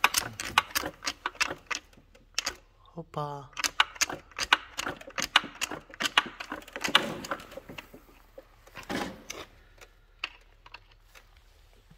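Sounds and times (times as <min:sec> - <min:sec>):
tools clicking and knocking: 0:00.0 - 0:02.7, 0:03.5 - 0:11.4.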